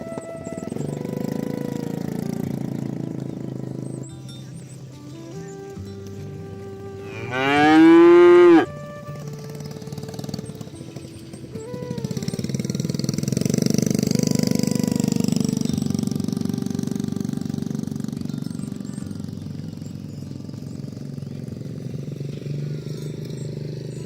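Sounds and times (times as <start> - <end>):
small engine chugging: 0.0 - 24.0.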